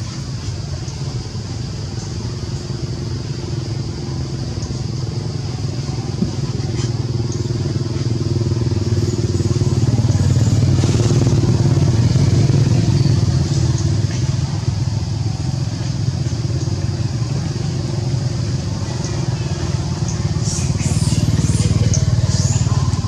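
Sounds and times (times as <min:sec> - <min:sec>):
small engine running: 0:02.6 - 0:23.0.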